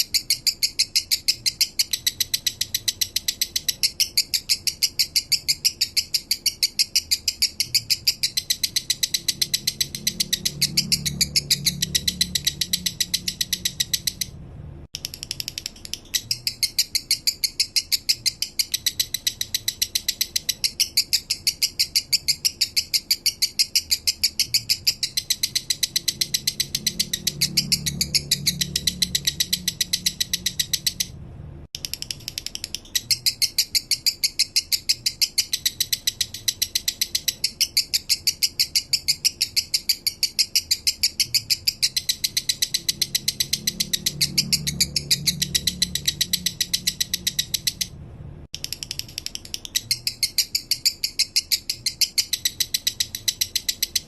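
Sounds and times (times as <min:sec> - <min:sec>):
lovebird chattering high chirps: 0:00.0 - 0:14.3, 0:15.0 - 0:31.1, 0:31.8 - 0:48.0, 0:48.6 - 0:54.0.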